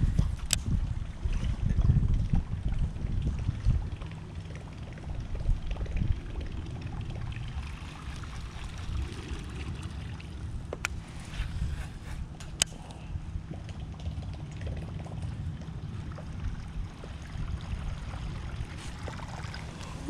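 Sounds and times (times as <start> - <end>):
low uneven rumble: 0.0 - 20.0
water sloshing and trickling: 0.0 - 20.0.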